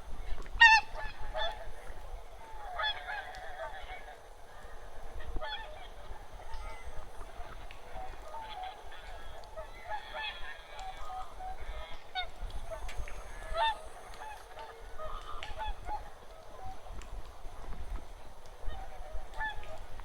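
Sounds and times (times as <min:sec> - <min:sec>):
geese honking: 0:00.6 - 0:04.7, 0:05.4 - 0:17.7.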